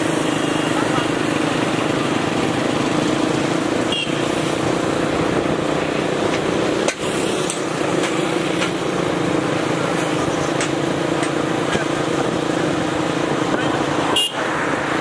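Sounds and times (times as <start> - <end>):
dense rushing noise: 0.0 - 15.0
vehicle engine hum: 0.0 - 15.0.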